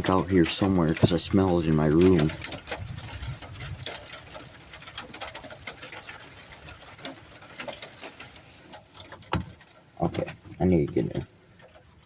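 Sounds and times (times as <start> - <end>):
raindrops ticking on hard surface: 0.0 - 12.0.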